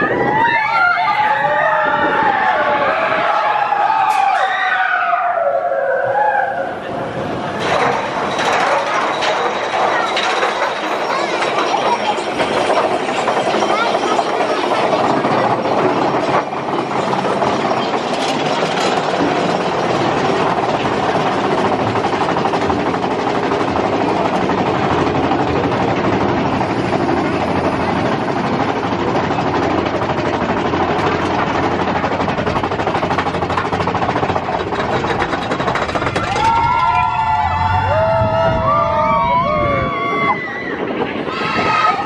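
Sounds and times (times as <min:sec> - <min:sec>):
roller coaster wheels rumbling on rails: 0:00.0 - 0:42.0.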